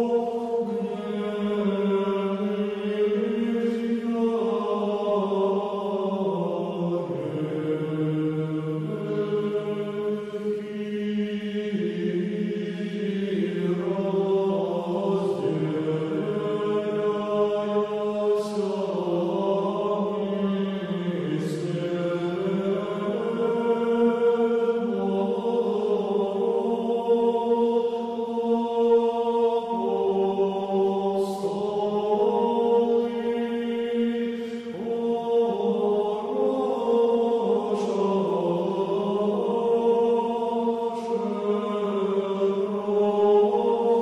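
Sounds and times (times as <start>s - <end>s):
low voices chanting: 0.0s - 44.0s.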